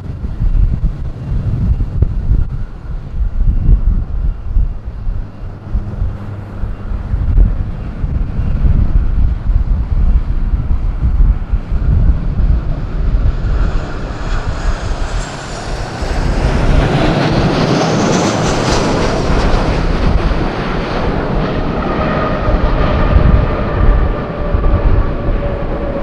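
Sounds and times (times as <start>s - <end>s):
jet engines passing: 0.0s - 26.0s
wind buffeting microphone: 0.0s - 26.0s.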